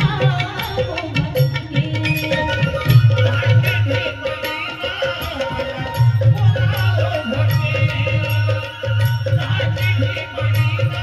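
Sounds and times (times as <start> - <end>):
hand drums beating: 0.0 - 11.0.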